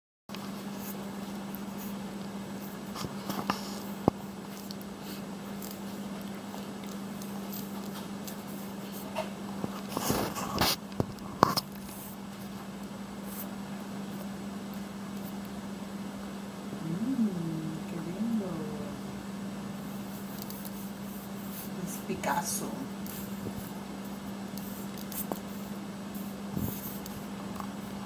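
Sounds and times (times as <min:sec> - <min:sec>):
steady low hum: 0:00.3 - 0:28.0.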